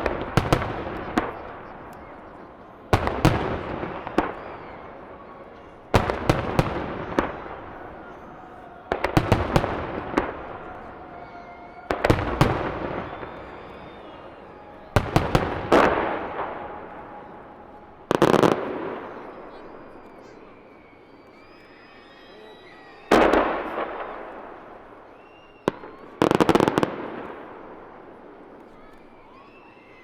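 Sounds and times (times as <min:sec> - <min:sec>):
rumble and crackle of fireworks: 0:00.0 - 0:30.0.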